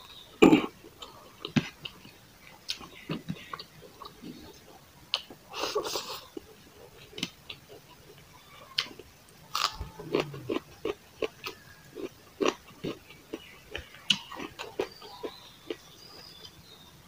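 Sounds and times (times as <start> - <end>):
chewing with wet lip smacking: 1.0 - 16.6.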